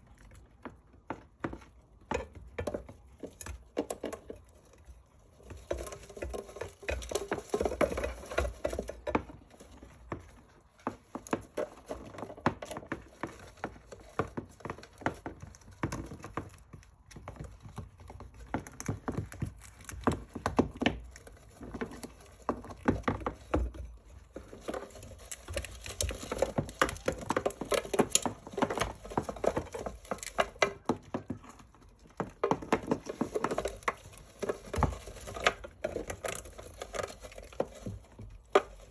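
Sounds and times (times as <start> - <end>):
hamsters scuffling: 0.0 - 38.9.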